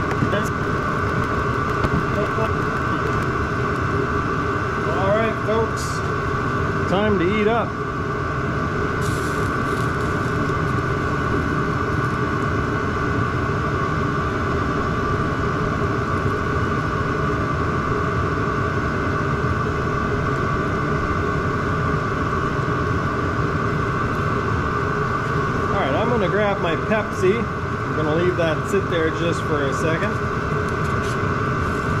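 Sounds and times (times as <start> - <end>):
high fan whine: 0.0 - 32.0.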